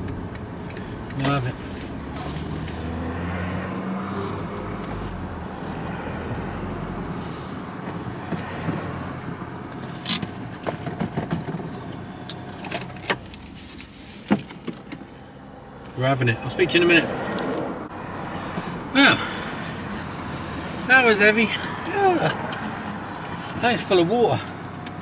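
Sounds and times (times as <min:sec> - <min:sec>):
van engine humming: 0:00.0 - 0:25.0.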